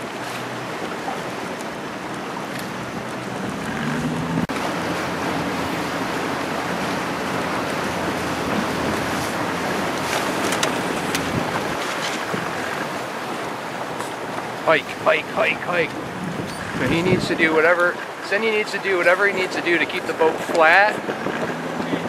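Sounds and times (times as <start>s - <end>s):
wind buffeting microphone: 0.0s - 18.2s, 19.3s - 22.0s
choppy water splashing: 0.0s - 22.0s.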